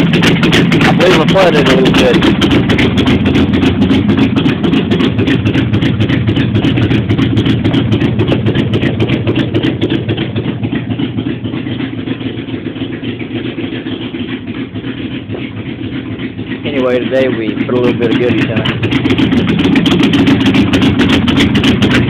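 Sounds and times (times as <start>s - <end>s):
car engine idling loudly: 0.0s - 22.0s.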